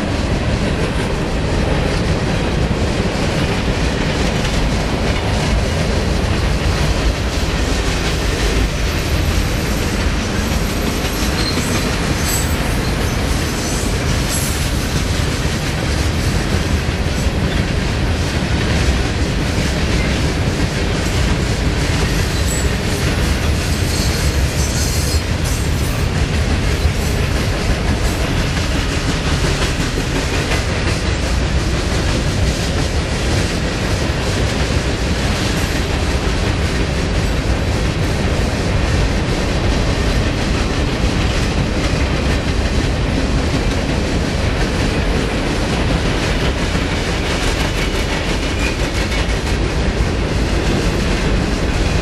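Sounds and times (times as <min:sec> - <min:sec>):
steel wheels rumbling on rail: 0:00.0 - 0:52.0
wheels clacking over rail joints: 0:00.0 - 0:52.0.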